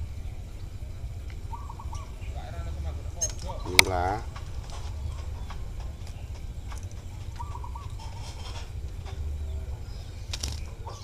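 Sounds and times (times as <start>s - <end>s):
bird chirping: 0.0s - 11.0s
low rumble: 0.0s - 11.0s.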